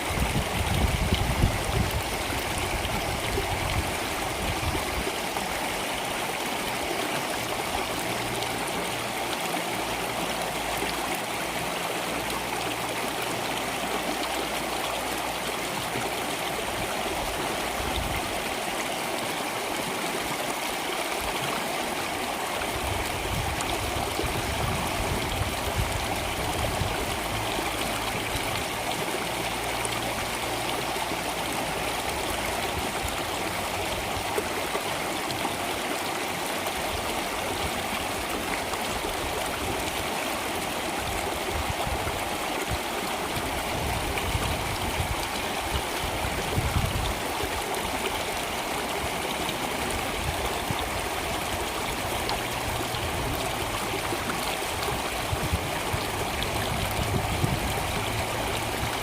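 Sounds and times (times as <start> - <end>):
stream of water flowing: 0.0 - 59.0.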